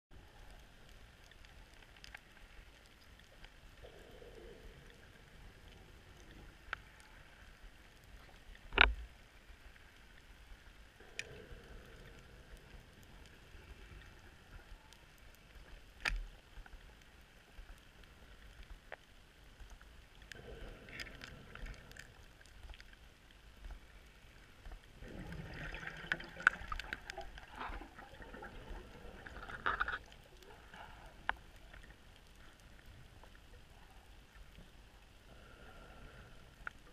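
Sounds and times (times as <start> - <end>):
underwater bubbles gurgling: 0.1 - 36.9.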